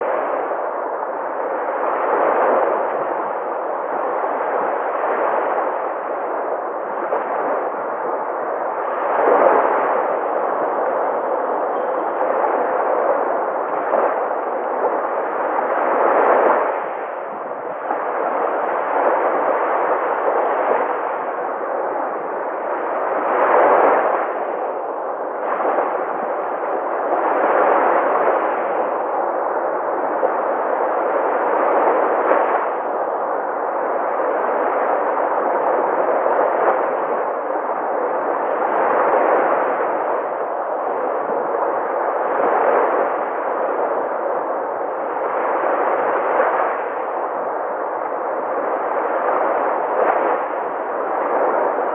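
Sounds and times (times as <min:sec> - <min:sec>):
sea waves breaking: 0:00.0 - 0:51.9.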